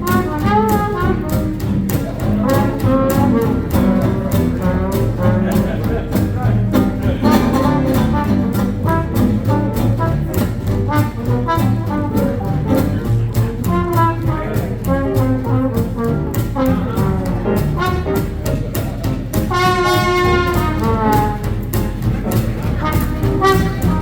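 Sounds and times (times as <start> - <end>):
swing jazz band playing: 0.0 - 24.0.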